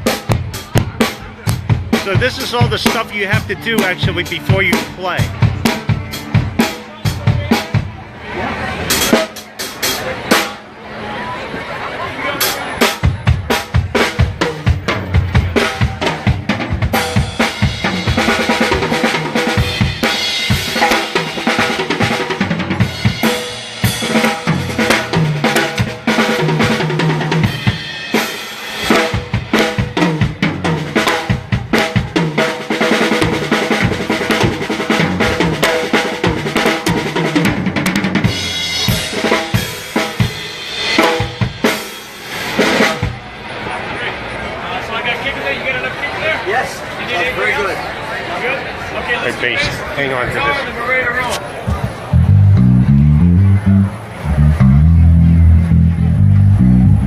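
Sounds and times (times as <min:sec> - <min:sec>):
drum kit groove: 0:00.0 - 0:08.0, 0:08.9 - 0:10.6, 0:12.4 - 0:43.2, 0:51.7 - 0:57.0.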